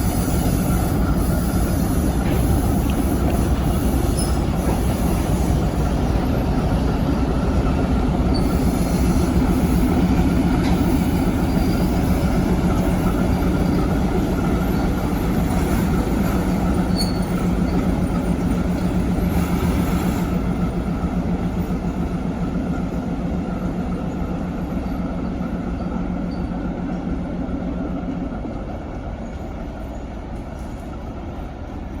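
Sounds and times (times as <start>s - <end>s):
diesel locomotive running: 0.0s - 32.0s
wheels rumbling on rail: 0.0s - 32.0s.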